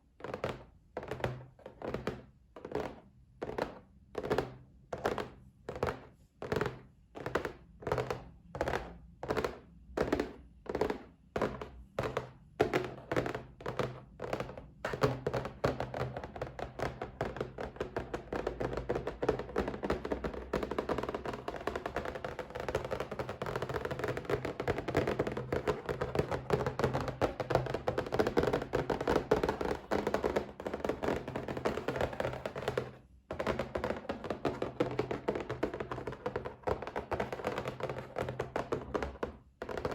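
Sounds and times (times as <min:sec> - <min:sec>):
fingers tapping on a box: 0:00.2 - 0:39.9.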